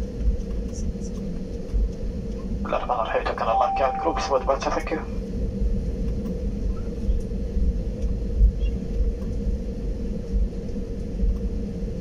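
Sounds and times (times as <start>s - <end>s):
airliner cabin rumble: 0.0s - 12.0s
jet engines droning: 0.0s - 12.0s.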